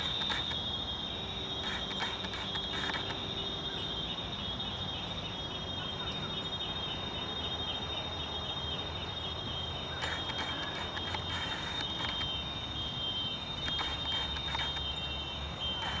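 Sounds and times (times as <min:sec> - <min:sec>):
insects trilling: 0:00.0 - 0:16.0
pulsing insect chirp: 0:00.0 - 0:16.0.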